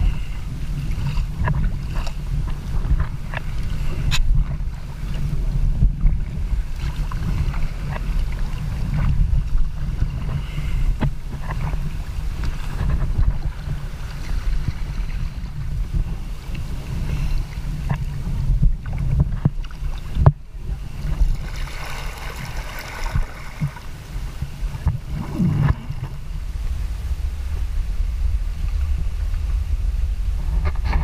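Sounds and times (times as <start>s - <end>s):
paddle strokes in water: 0.0s - 31.0s
wind rumbling on microphone: 0.0s - 31.0s.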